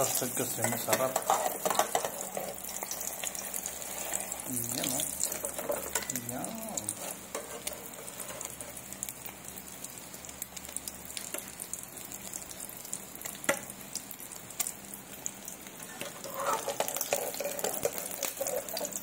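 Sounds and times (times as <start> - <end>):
egg sizzling in oil: 0.0 - 19.0.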